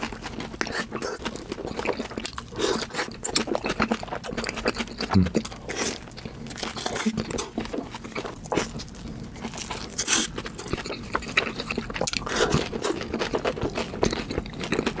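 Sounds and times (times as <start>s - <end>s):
person chewing crunchy pastry: 0.0s - 15.0s.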